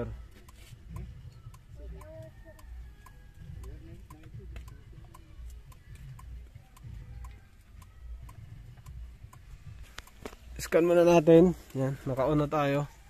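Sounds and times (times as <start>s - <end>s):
faint steady ticking: 0.0s - 13.0s.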